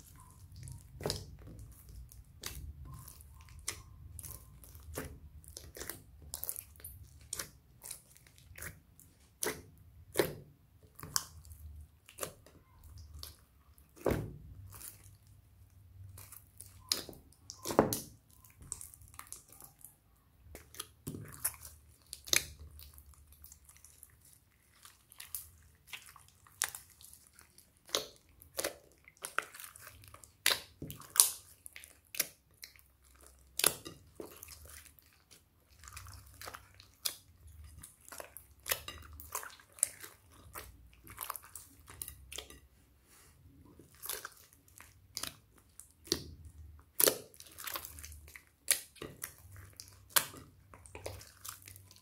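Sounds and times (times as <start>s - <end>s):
slime squelching and popping: 0.0s - 42.7s, 43.4s - 52.0s.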